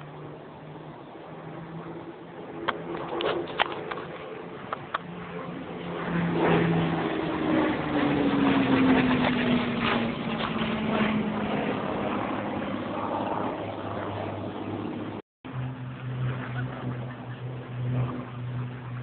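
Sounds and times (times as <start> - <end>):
propeller plane engine flying past: 0.0 - 19.0.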